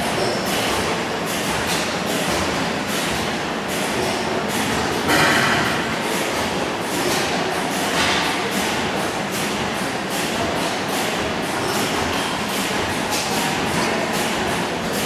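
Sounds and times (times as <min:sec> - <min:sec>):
old gas engines running: 0:00.0 - 0:15.0.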